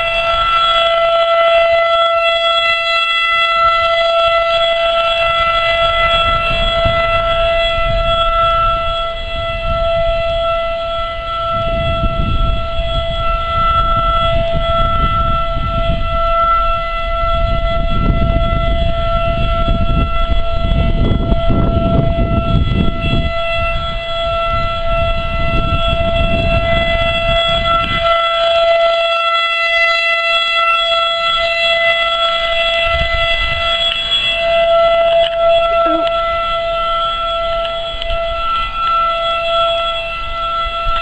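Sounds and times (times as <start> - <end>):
warning siren wailing: 0.0 - 41.0.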